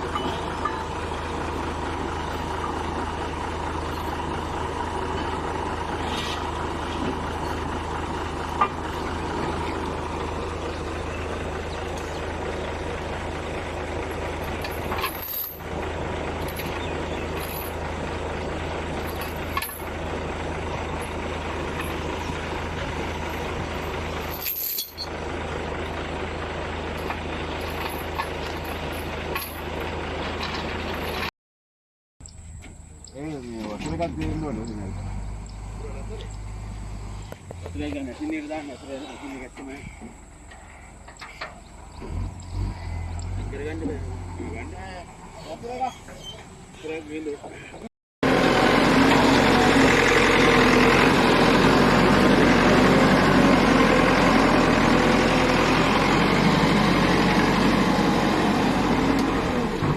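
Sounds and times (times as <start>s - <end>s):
diesel machinery droning: 0.0s - 31.3s, 32.2s - 59.9s.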